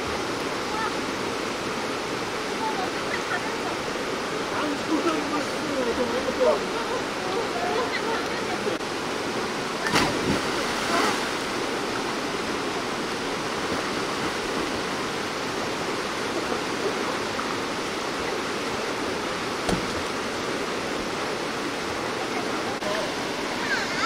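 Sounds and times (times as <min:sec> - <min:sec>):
stream rapids rushing: 0:00.0 - 0:24.0.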